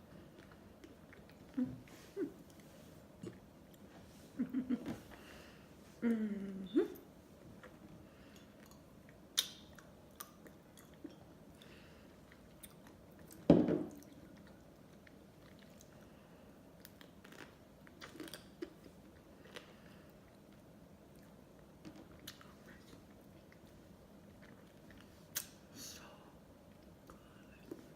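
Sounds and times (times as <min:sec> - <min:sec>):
mouth chewing and smacking: 0:00.1 - 0:03.9, 0:06.7 - 0:25.6.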